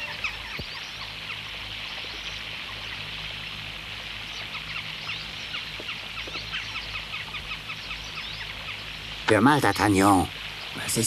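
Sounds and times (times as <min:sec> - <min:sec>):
small birds chirping: 0:00.0 - 0:11.0
steady rushing hiss: 0:00.0 - 0:11.0.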